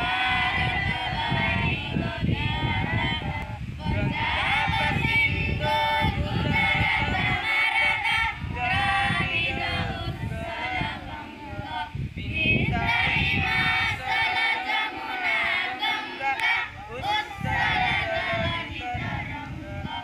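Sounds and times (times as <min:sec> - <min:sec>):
students singing in unison: 0:00.0 - 0:20.0.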